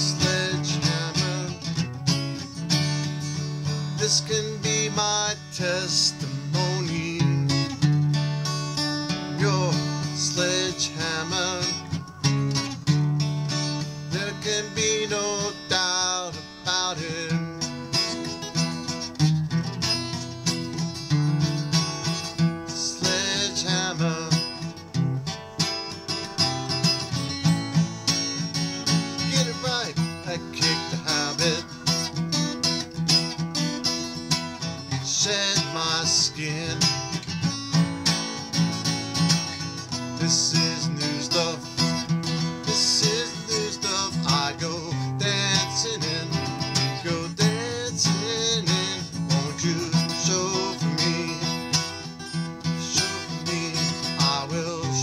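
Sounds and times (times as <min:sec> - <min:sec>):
acoustic guitar strummed: 0:00.0 - 0:55.0.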